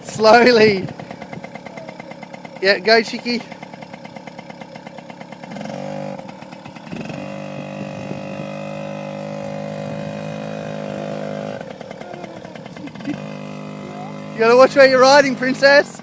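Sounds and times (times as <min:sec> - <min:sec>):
two-stroke dirt bike engine: 0:00.0 - 0:16.0.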